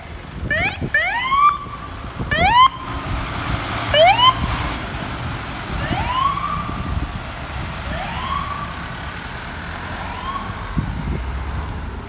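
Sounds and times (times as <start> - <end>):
low traffic rumble: 0.0 - 12.0
fire truck siren wailing: 0.4 - 9.0, 9.8 - 11.1.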